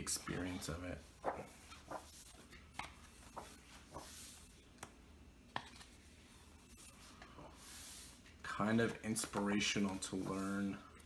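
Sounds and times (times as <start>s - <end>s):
book pages turning: 0.0s - 10.8s.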